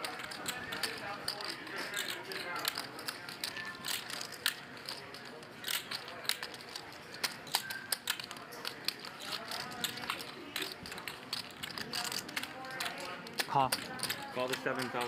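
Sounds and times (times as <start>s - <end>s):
faint room chatter: 0.0s - 15.0s
poker chips clicking: 0.0s - 15.0s.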